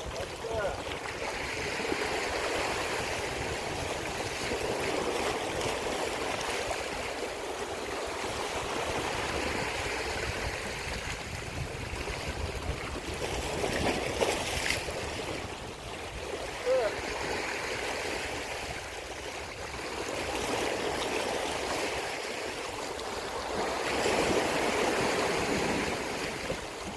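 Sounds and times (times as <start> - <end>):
sea water washing against shore: 0.0 - 26.9.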